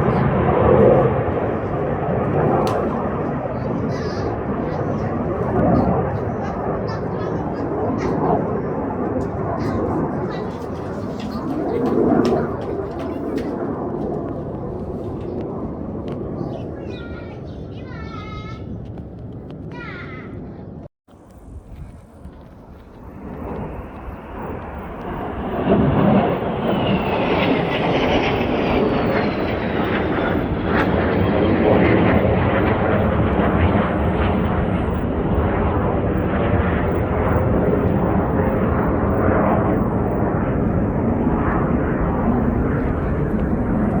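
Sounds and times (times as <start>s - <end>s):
jet aircraft engine roar: 0.0s - 44.0s.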